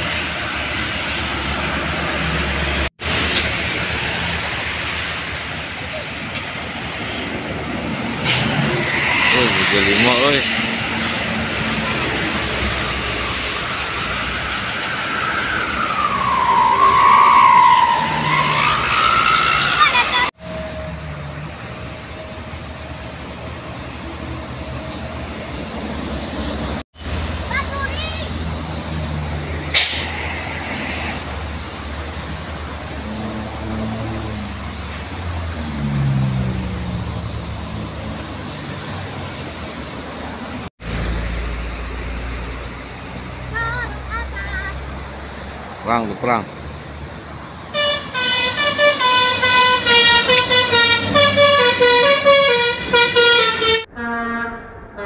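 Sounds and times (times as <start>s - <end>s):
bus passing with whine: 0.0s - 55.0s
road traffic passing: 0.0s - 55.0s.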